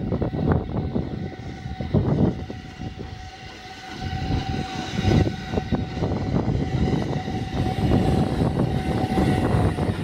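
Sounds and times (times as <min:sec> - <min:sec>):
steady high tone: 0:00.0 - 0:10.0
steam locomotive rumble: 0:00.0 - 0:10.0.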